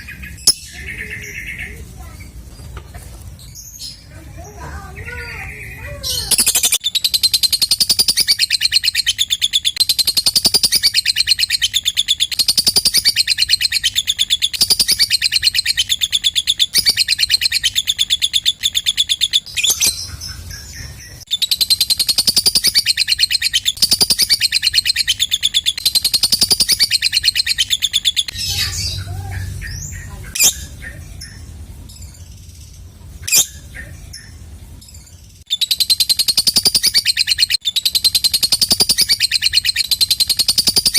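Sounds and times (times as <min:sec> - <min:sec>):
lovebird chattering: 0:00.0 - 0:02.4, 0:03.5 - 0:40.9
bird chirps and sharp calls: 0:00.0 - 0:40.9.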